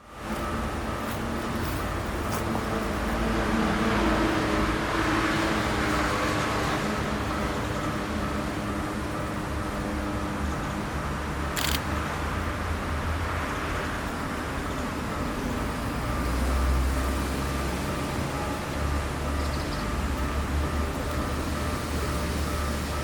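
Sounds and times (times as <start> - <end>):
level-crossing warning bell ringing: 0.0 - 23.0.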